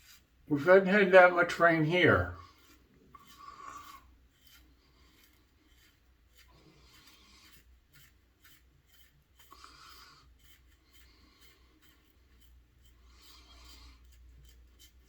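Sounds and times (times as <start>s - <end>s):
razor scraping stubble: 0.0s - 15.0s.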